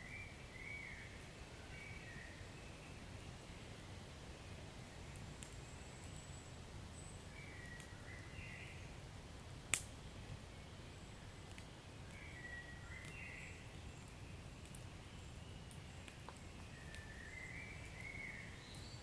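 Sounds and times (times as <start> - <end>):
fire low rumble: 0.3 - 19.0
wood fire crackling: 2.4 - 19.0.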